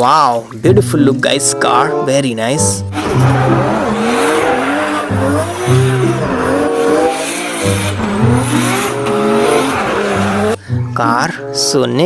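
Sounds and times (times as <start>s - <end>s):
gliding lead synth line: 0.6s - 12.0s
repeating bass note: 1.0s - 11.0s.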